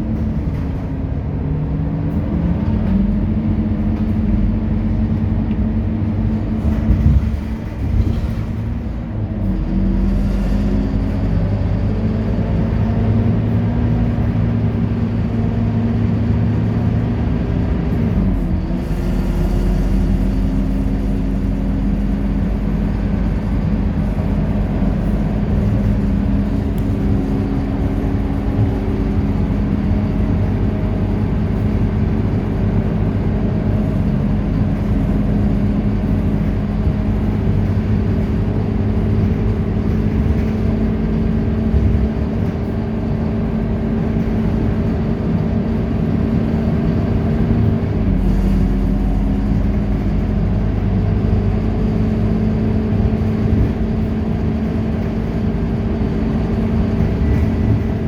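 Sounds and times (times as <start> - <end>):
bus diesel engine drone: 0.0 - 58.0.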